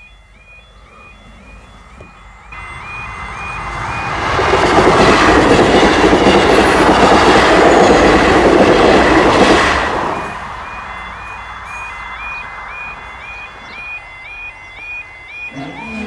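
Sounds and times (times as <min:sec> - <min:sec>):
passenger train passing at speed: 0:00.0 - 0:16.0
wheel and rail noise: 0:00.0 - 0:16.0.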